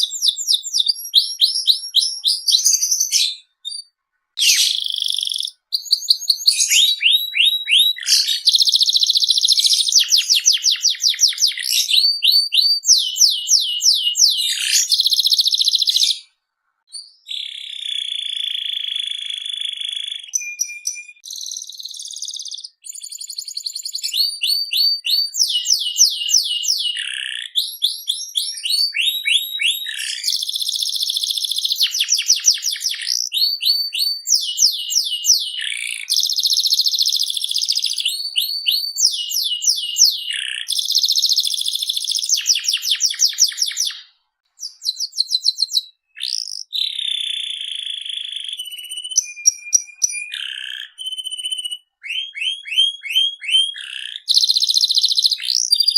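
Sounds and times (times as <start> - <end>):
canary singing: 0.0 - 55.9.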